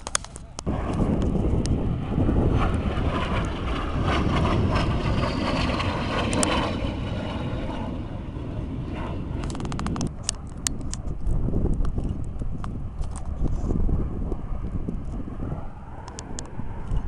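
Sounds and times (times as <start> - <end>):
high jet whine falling: 0.0 - 17.0
jet engine flying past: 0.0 - 17.0
wind buffeting microphone: 0.0 - 17.0.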